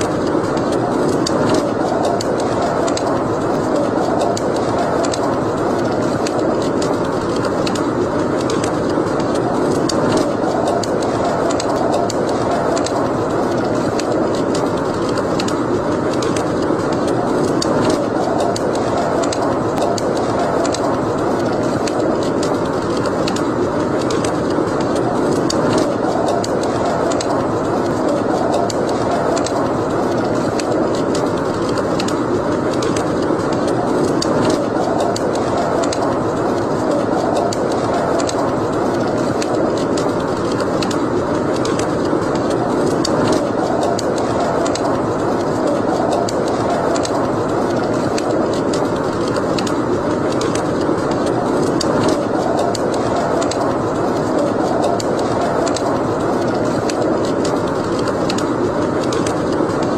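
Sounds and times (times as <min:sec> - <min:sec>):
fire crackles and pops: 0:00.0 - 0:59.9
fire rushing: 0:00.0 - 0:59.9.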